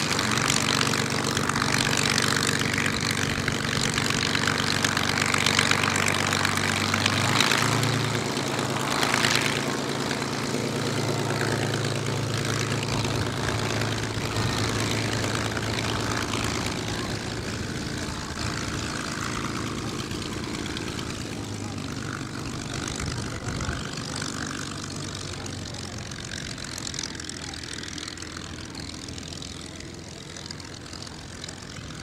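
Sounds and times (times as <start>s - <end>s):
propeller aircraft engine running: 0.0s - 32.0s.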